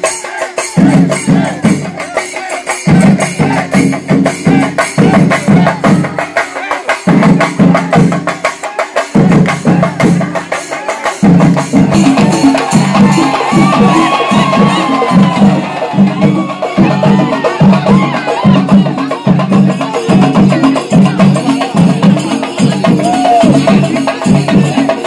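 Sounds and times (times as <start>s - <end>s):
drums and cymbals: 0.0s - 25.0s.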